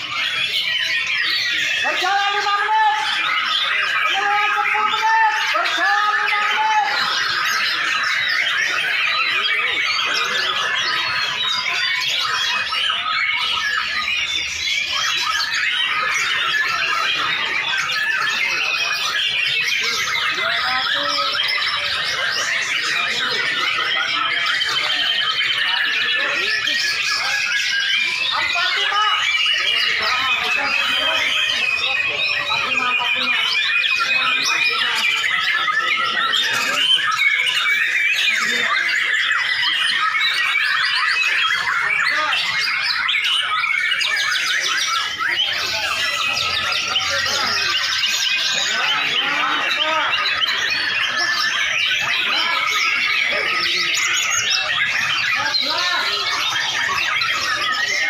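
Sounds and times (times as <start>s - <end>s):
birds singing: 0.0s - 58.0s.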